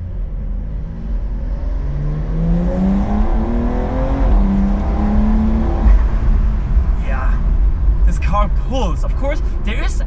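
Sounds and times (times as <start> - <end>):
car engine accelerating hard: 0.1 - 8.5.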